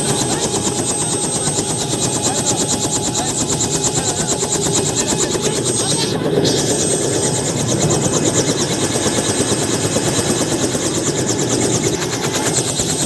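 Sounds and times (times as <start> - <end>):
helicopter rotor chopping: 0.0 - 13.0
turbine engine whine: 0.0 - 13.0.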